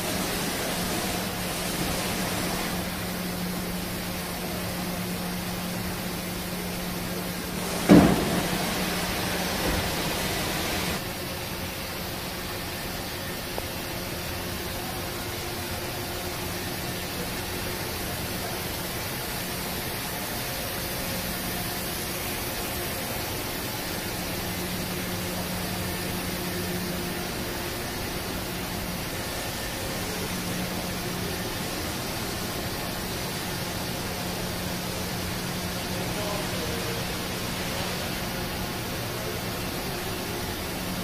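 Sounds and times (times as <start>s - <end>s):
factory machinery hiss and hum: 0.0s - 41.0s.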